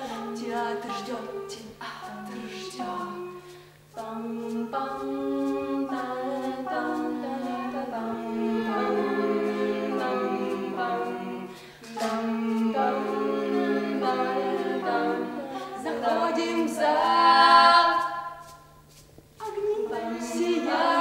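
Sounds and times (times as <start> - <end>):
a cappella group singing: 0.0 - 18.8, 19.4 - 21.0
faint hum: 0.0 - 21.0.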